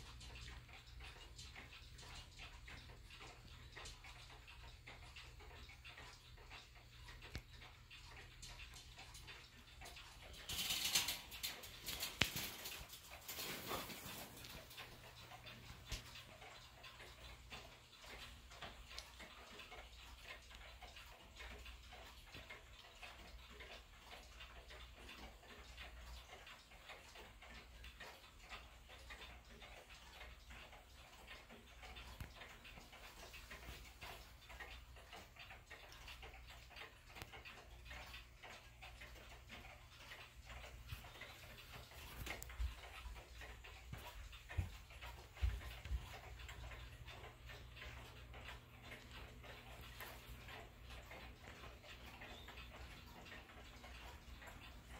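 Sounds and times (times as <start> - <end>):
pendulum clocks ticking: 0.0 - 54.9.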